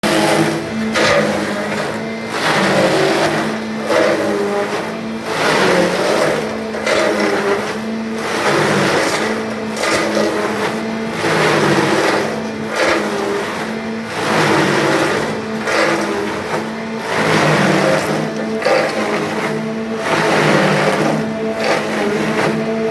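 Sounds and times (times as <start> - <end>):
grinding machine humming: 0.0 - 22.9.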